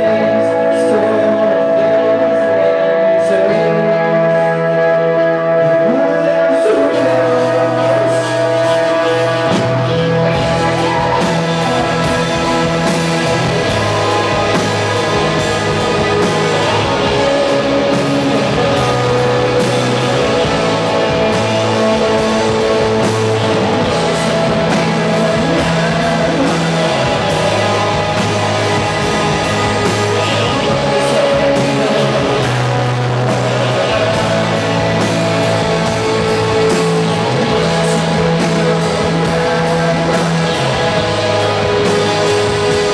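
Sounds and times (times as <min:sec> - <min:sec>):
distorted electric guitars: 0:00.0 - 0:42.9
drum kit: 0:00.0 - 0:42.9
held bass notes: 0:00.0 - 0:42.9
keyboard: 0:00.0 - 0:42.9.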